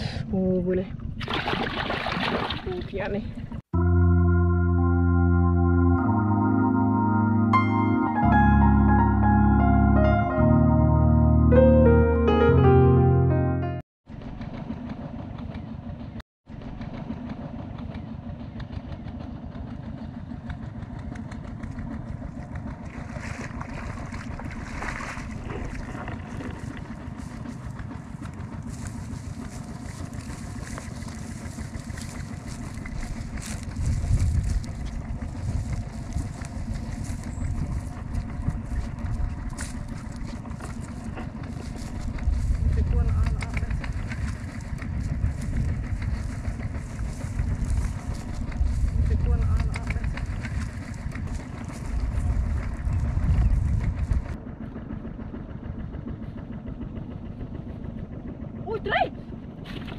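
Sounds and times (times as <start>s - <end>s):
low rumbles: 2.6s - 59.9s
engine humming: 3.0s - 59.9s.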